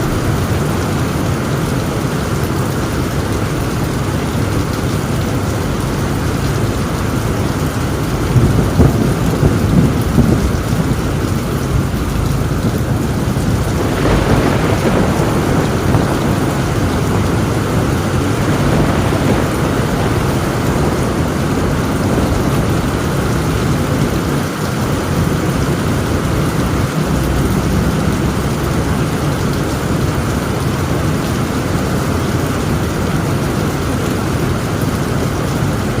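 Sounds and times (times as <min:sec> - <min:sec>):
heavy rain on a tin roof: 0:00.0 - 0:36.0
low thunder rumble: 0:00.0 - 0:36.0.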